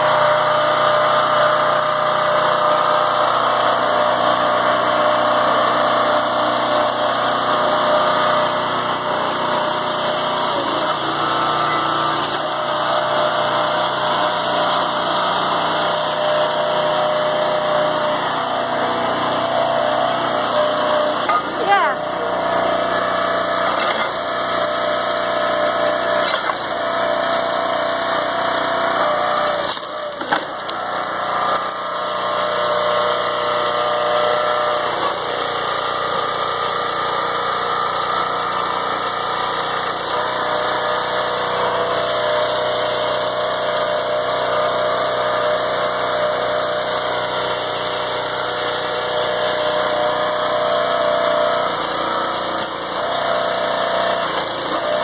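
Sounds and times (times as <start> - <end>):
log splitter engine and hydraulics: 0.0 - 55.0.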